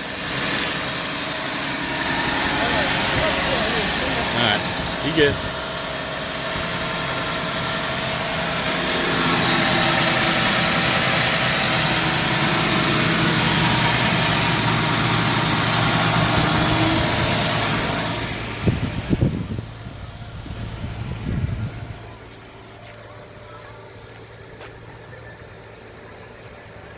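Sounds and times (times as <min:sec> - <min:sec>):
engine knocks: 0:00.0 - 0:25.9
engine idling: 0:00.0 - 0:26.9.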